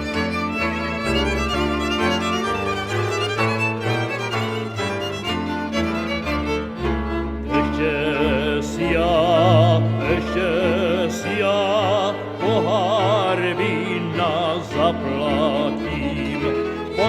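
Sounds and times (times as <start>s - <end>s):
violins playing vibrato melody: 0.0s - 17.0s.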